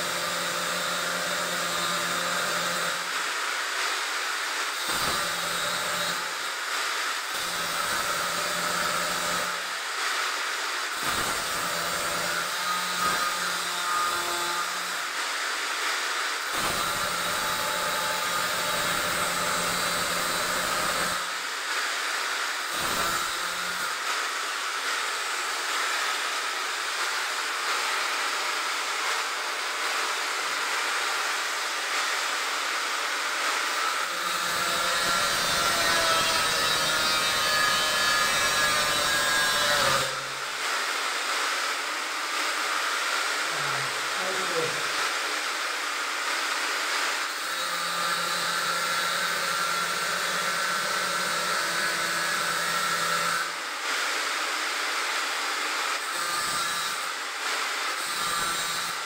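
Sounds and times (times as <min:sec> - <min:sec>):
angle grinder cutting metal: 0:00.0 - 0:42.1, 0:42.8 - 0:54.4, 0:55.8 - 0:59.0.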